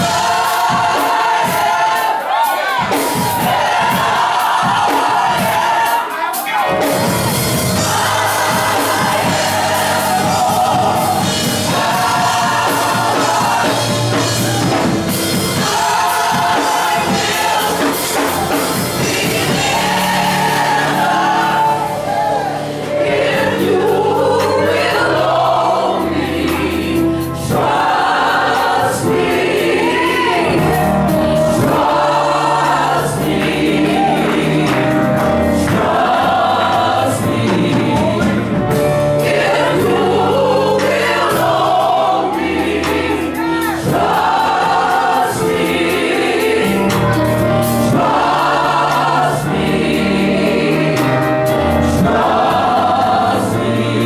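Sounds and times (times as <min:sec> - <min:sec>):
gospel choir singing: 0:00.0 - 0:54.0
keyboard: 0:00.0 - 0:54.0
percussion: 0:00.0 - 0:54.0.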